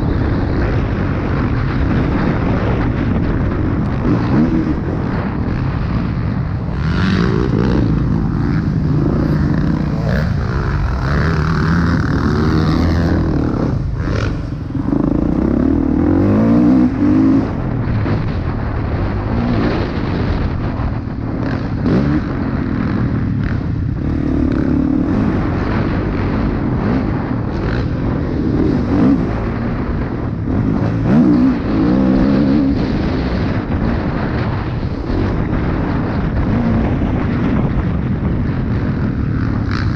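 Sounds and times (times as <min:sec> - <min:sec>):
motocross engine revving: 0:01.9 - 0:37.9.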